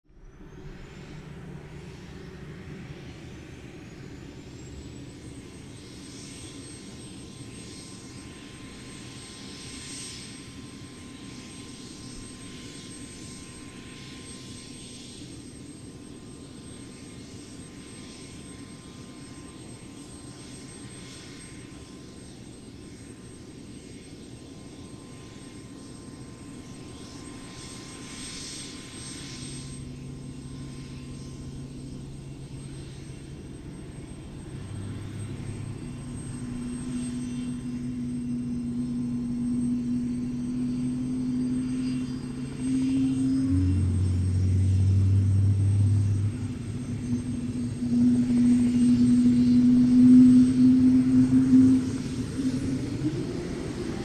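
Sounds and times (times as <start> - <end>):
high turbine whine: 0.1 - 54.0
helicopter rotor rumble: 0.2 - 54.0.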